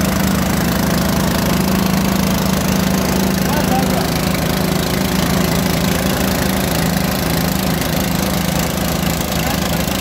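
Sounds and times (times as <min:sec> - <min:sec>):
drilling rig engine running: 0:00.0 - 0:10.0.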